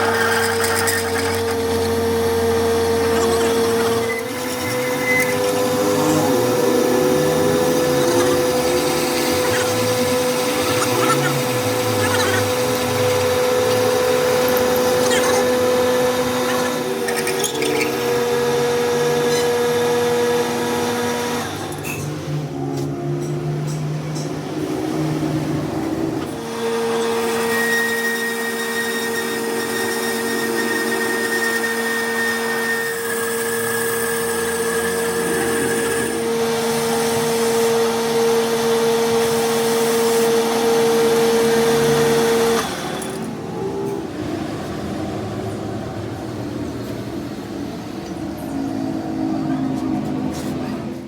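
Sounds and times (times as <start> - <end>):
power tool motor whining: 0.0 - 22.4, 25.0 - 44.8.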